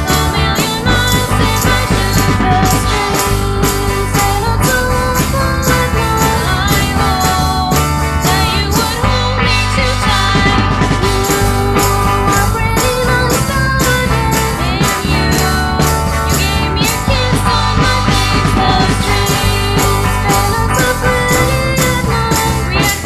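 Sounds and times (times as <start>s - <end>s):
indie pop band playing: 0.0s - 23.0s
steady drum beat: 0.0s - 23.0s.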